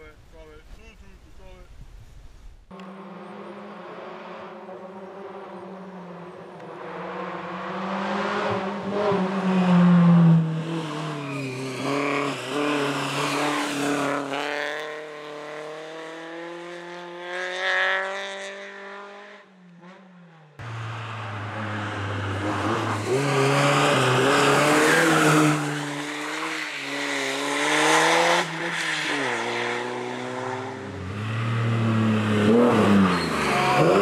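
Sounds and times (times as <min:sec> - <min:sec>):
rally car engine passing at speed: 0:02.7 - 0:34.0.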